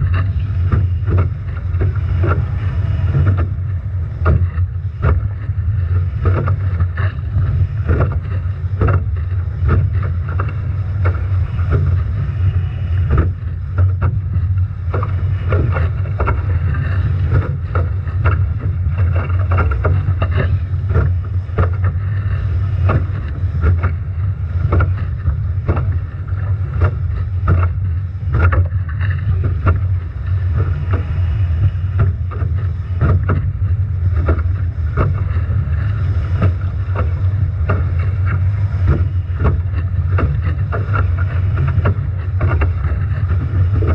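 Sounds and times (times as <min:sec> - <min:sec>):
water splashing and slapping: 0:00.0 - 0:43.9
wind buffeting microphone: 0:00.0 - 0:43.9.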